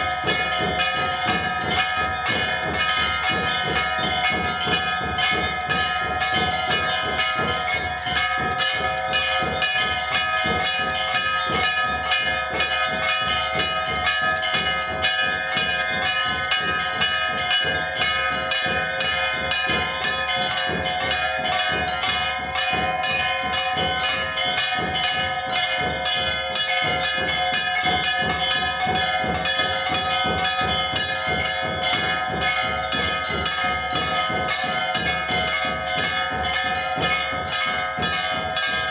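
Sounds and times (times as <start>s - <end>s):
temple bells ringing rapidly: 0.0s - 38.9s.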